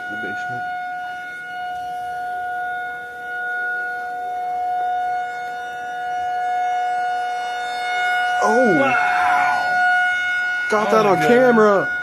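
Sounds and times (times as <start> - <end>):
tornado warning siren: 0.0 - 12.0.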